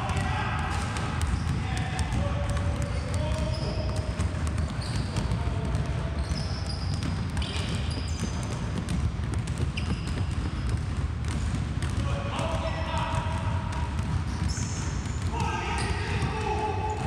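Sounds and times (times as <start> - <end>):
sneakers squeaking on floor: 0.0 - 12.2, 13.1 - 17.0
basketballs bouncing on hardwood: 0.0 - 17.0.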